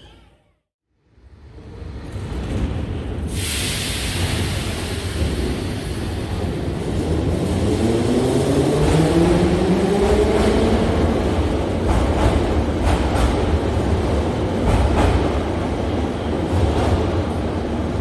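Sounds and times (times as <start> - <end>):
train low rumble: 1.0 - 18.0.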